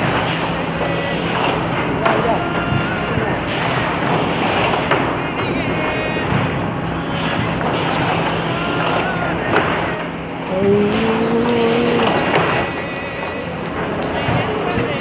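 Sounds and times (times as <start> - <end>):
printing machine hum and clatter: 0.0 - 15.0.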